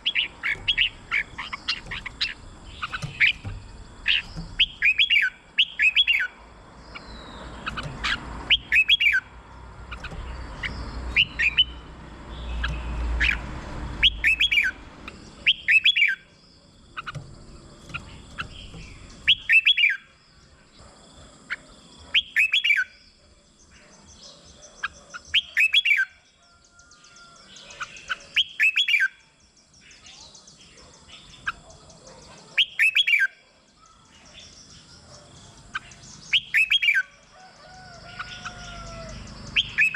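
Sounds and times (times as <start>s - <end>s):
bird singing whistled notes: 0.0s - 9.3s, 9.9s - 13.4s, 14.0s - 17.2s, 17.8s - 20.1s, 22.1s - 23.1s, 24.1s - 31.7s, 32.6s - 34.7s, 35.6s - 37.1s, 38.2s - 39.9s.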